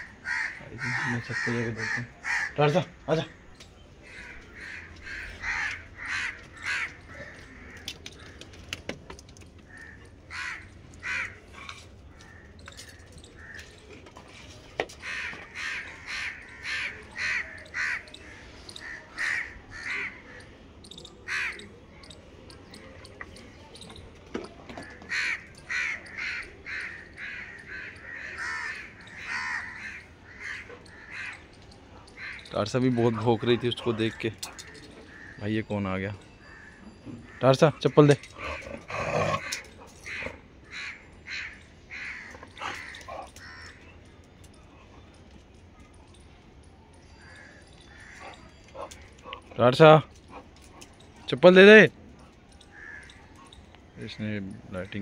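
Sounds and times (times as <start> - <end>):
crows cawing: 0.0 - 8.7, 9.7 - 13.9, 14.8 - 21.7, 24.7 - 35.6, 36.4 - 44.0, 47.2 - 51.0, 52.6 - 55.0.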